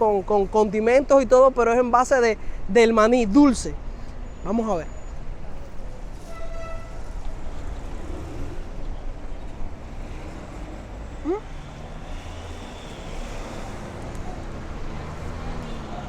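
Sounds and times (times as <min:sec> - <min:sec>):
passing vehicles rumbling: 0:00.0 - 0:16.0.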